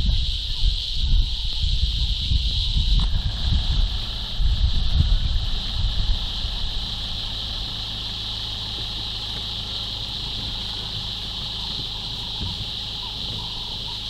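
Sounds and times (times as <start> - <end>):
high insect drone: 0.0 - 14.0
low rumbling: 0.0 - 14.0
vehicle engine idling: 0.0 - 14.0.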